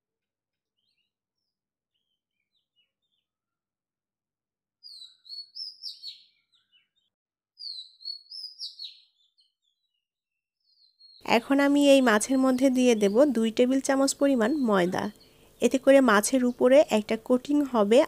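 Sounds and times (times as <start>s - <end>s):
small bird chirping: 0.7s - 3.6s, 4.8s - 17.6s.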